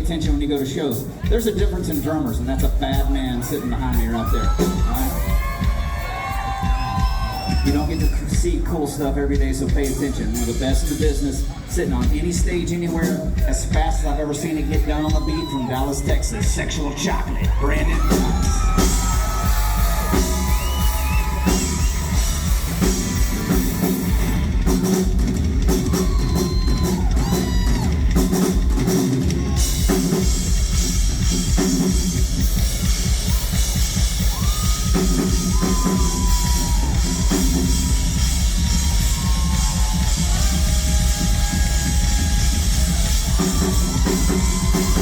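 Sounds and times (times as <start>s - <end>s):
bass guitar: 0.0s - 45.0s
live rock band playing: 0.0s - 45.0s.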